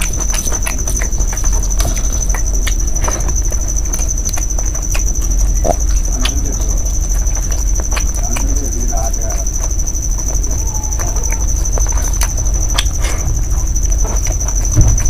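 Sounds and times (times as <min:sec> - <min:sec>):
fingers squishing food: 0:00.0 - 0:15.0
lip smacks: 0:00.0 - 0:15.0
low hum: 0:00.0 - 0:15.0
wet chewing: 0:00.0 - 0:15.0.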